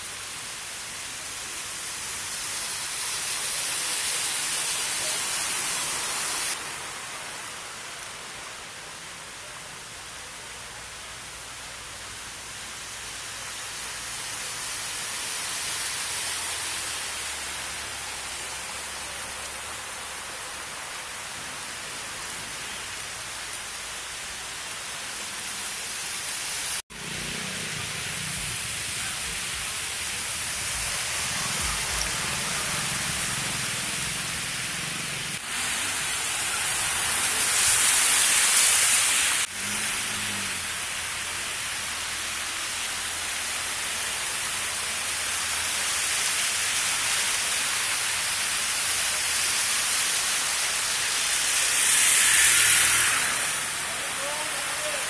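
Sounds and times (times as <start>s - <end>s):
tyres swishing through floodwater: 0.0s - 55.0s.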